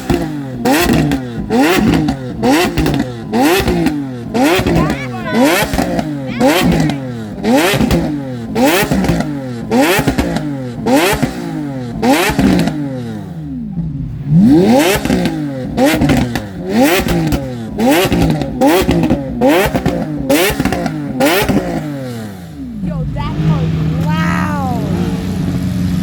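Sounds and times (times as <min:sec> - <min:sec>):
sports car engine revving: 0:00.0 - 0:26.0.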